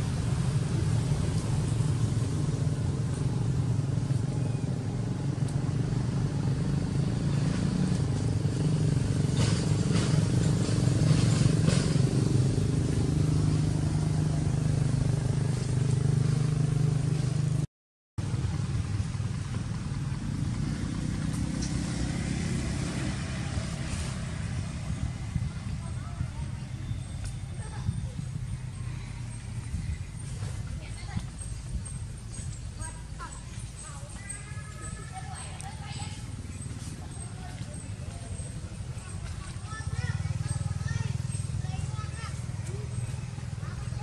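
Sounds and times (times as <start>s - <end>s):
motor vehicle engine running: 0.0s - 44.0s.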